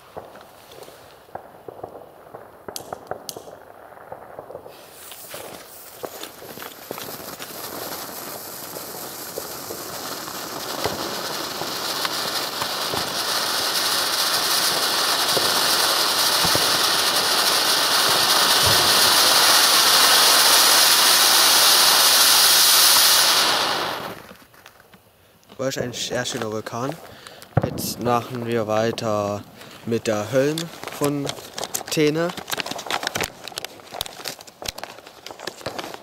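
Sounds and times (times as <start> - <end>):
firework fountain hissing: 0.0 - 24.5, 25.6 - 36.0
firework crackles: 0.0 - 36.0.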